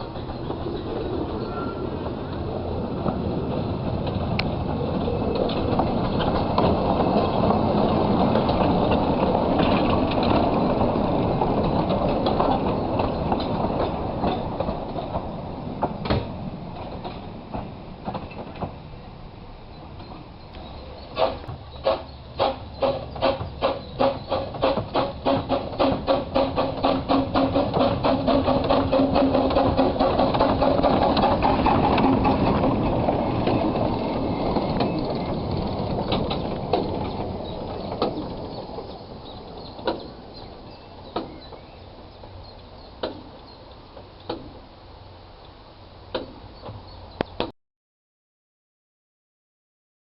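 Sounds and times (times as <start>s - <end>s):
steam train passing: 0.0s - 47.4s
wheels clicking on rail joints: 0.0s - 47.5s.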